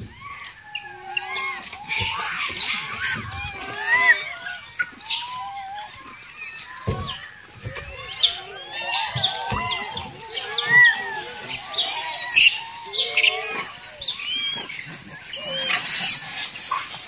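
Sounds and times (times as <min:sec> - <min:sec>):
monkeys chirping calls: 0:00.1 - 0:17.0.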